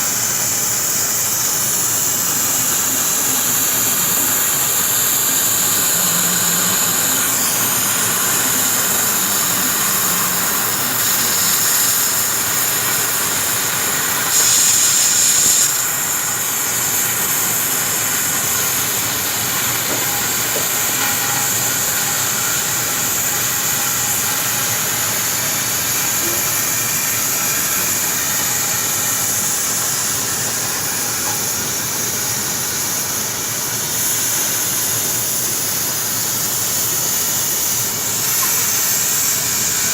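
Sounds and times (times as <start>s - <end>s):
pipe-cutting machine hissing: 0.0s - 39.9s.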